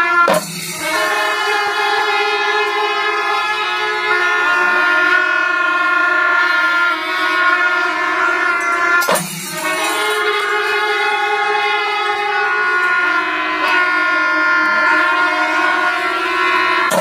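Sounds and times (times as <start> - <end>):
brass horns blowing a chord: 0.0 - 17.0.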